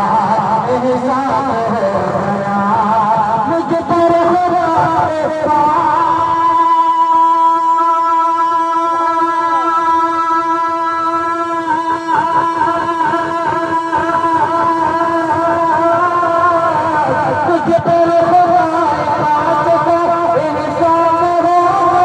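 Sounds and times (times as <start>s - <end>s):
man singing through loudspeaker: 0.0s - 22.0s.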